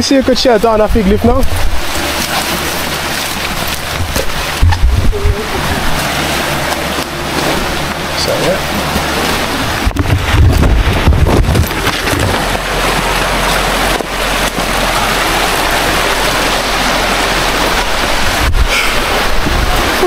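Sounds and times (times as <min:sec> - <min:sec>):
falling water rushing: 0:00.0 - 0:20.0
wind rumble on microphone: 0:00.0 - 0:20.0.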